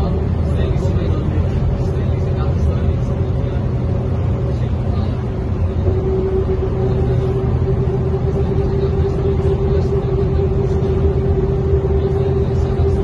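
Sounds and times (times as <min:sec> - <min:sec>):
bus engine drone: 0:00.0 - 0:13.0
steady whine: 0:00.0 - 0:13.0.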